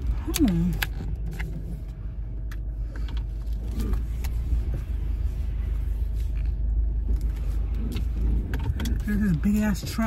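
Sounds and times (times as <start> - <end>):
car engine rumble from inside: 0.0 - 10.0.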